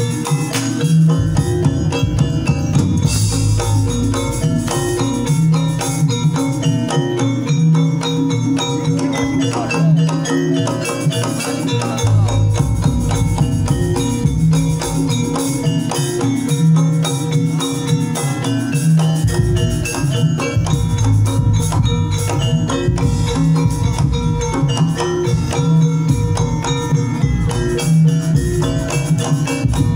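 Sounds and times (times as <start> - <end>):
gamelan music with drums: 0.0 - 29.9.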